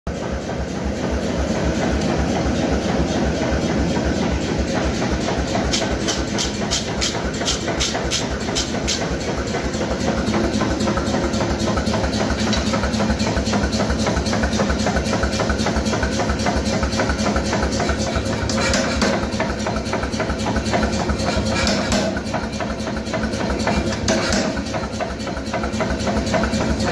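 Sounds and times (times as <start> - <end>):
pulsing machinery drone: 0.1 - 26.9.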